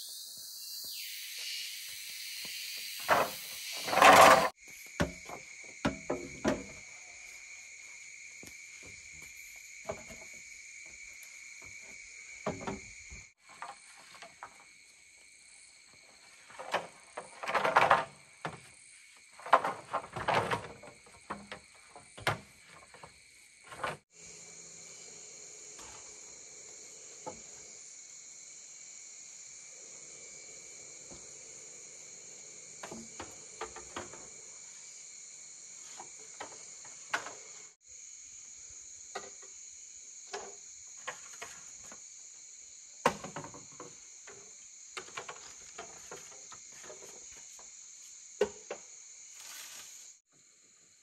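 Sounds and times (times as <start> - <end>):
high-pitched insect chorus: 0.0 - 51.0.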